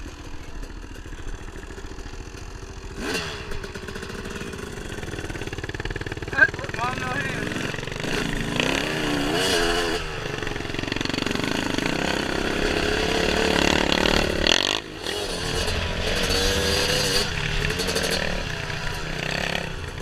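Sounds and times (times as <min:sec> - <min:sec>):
dirt bike engine revving: 0:00.7 - 0:20.0.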